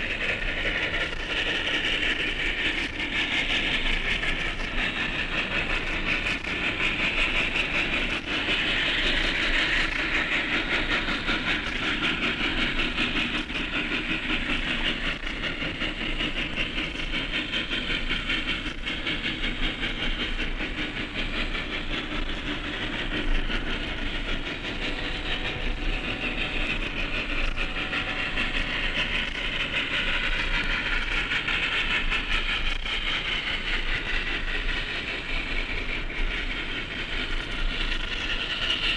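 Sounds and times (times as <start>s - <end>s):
hiss of steam: 0.0s - 38.9s
steam locomotive running: 0.0s - 38.9s.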